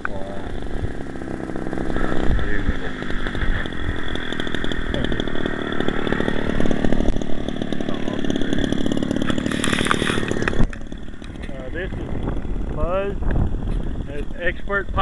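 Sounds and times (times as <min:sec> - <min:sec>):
small two-stroke engine running: 0:00.0 - 0:15.0.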